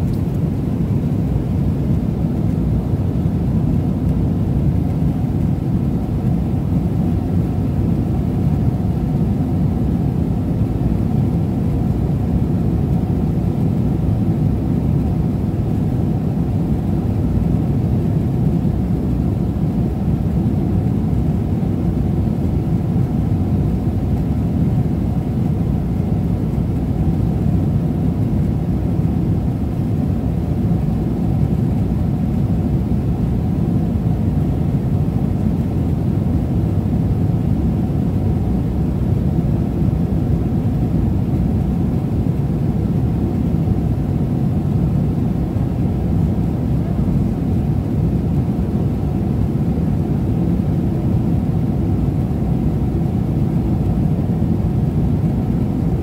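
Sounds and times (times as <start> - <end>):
airliner cabin engine rush: 0.0 - 56.0.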